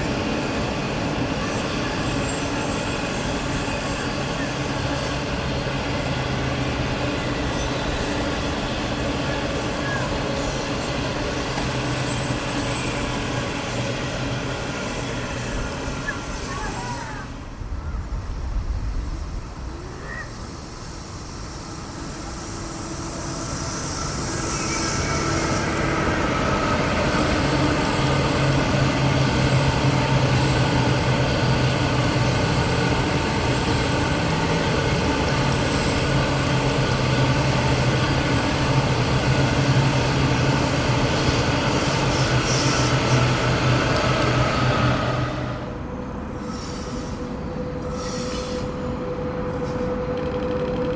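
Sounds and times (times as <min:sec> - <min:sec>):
passenger train passing: 0:00.0 - 0:50.9.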